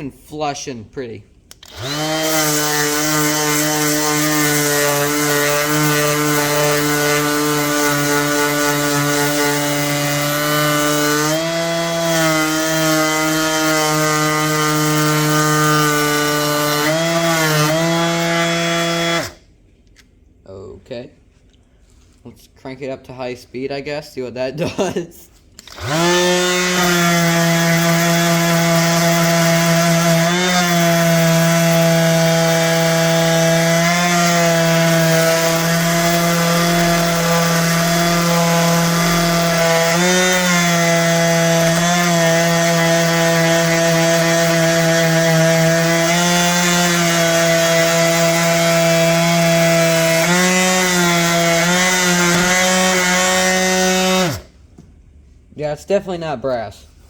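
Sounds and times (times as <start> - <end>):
orbital sander on metal: 1.7 - 19.4, 25.8 - 54.5.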